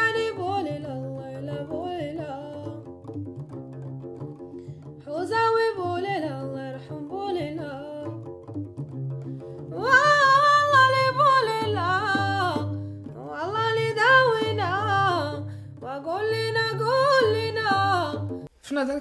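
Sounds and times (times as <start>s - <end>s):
woman singing: 0.0s - 3.0s, 5.0s - 8.4s, 9.6s - 19.0s
plucked bass lute notes: 0.0s - 18.5s.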